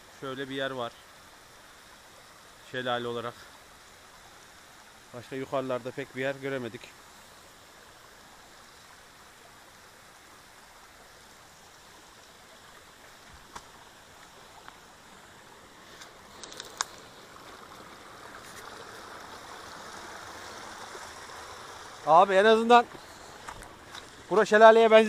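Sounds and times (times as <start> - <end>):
small waterfall splashing: 0.1 - 25.0.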